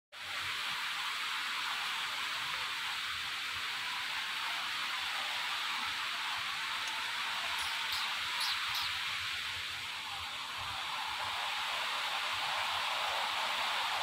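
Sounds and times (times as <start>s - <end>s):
steady hiss: 0.2s - 14.0s.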